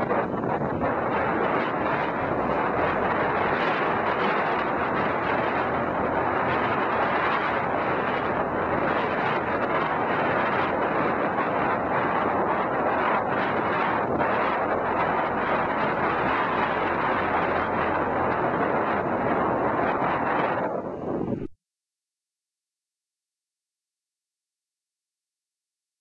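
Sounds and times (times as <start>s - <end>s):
wind on microphone: 0.0s - 21.6s.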